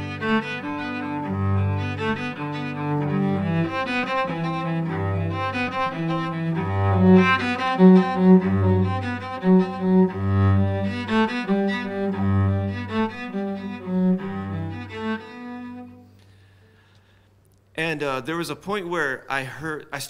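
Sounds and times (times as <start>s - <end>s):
bowed cello playing: 0.0s - 16.9s.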